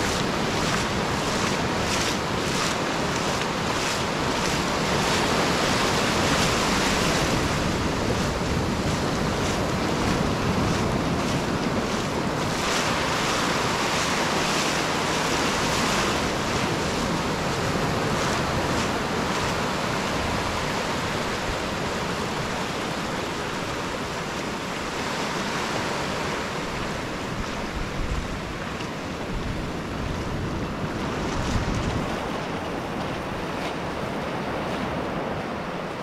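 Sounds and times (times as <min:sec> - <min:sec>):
surf breaking on sand: 0:00.0 - 0:36.0
wind buffeting microphone: 0:00.0 - 0:36.0.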